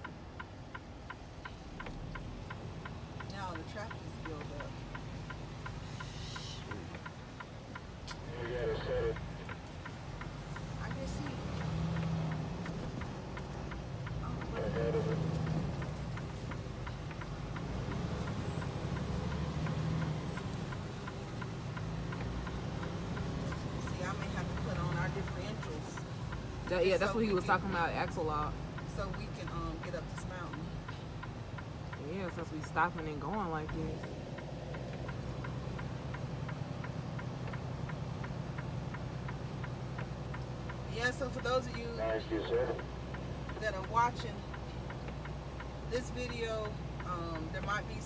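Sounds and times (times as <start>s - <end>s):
light regular clicking: 0.0s - 8.6s, 9.2s - 48.0s
diesel engine idling: 0.0s - 48.0s.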